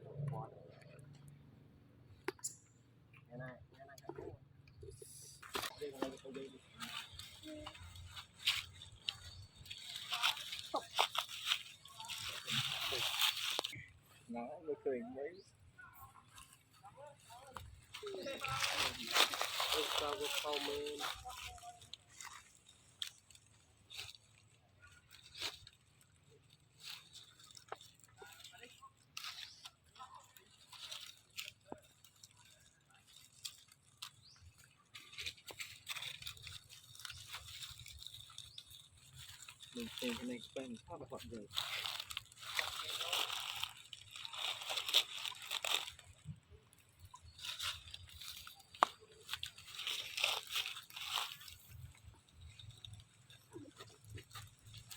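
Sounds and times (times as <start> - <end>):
faint crunches and clicks: 0.1 - 13.9, 15.4 - 54.9.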